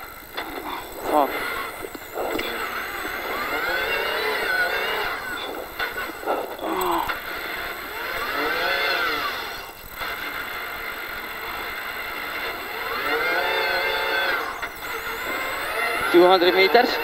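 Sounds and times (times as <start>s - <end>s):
cabin noise: 0.0s - 17.0s
car engine revving: 0.0s - 17.0s.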